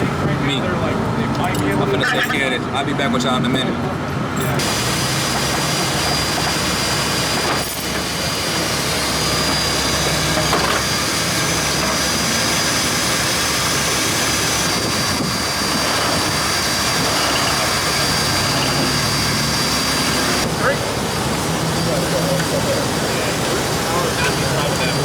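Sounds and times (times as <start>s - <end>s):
vehicle engine running: 3.5s - 25.0s
high-pitched whine: 4.6s - 25.0s.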